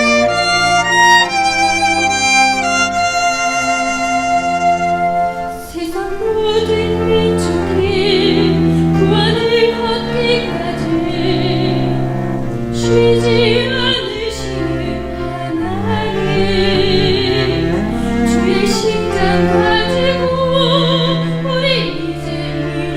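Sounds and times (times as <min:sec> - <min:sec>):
sustained instrumental accompaniment: 0:00.0 - 0:22.9
person singing with wide vibrato: 0:02.6 - 0:22.9.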